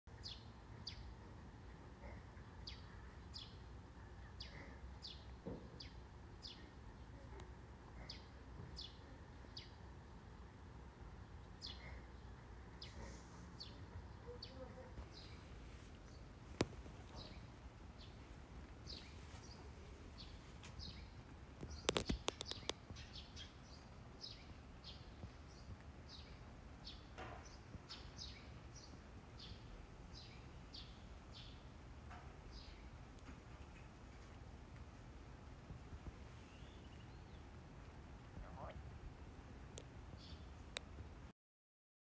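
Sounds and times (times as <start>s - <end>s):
small birds chirping: 0.1s - 41.1s.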